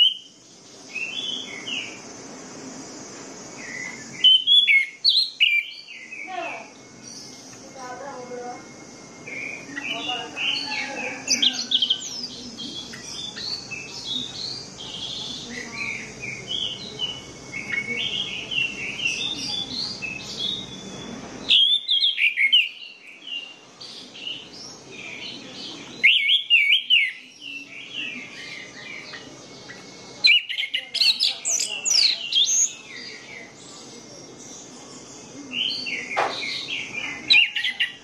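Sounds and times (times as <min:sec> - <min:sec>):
low background noise: 0:00.0 - 0:38.0.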